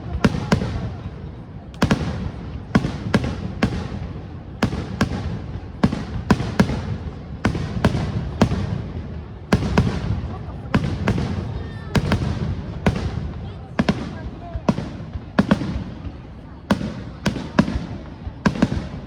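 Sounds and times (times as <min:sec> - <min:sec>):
fireworks bursting with echo: 0:00.0 - 0:19.0.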